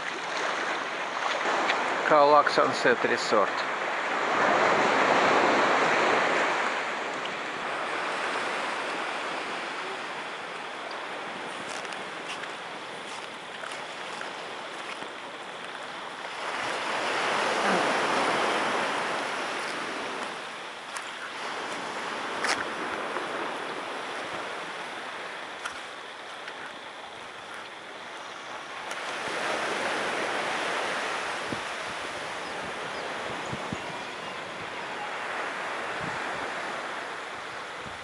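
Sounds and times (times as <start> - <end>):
waves washing onto beach: 0.0 - 38.0.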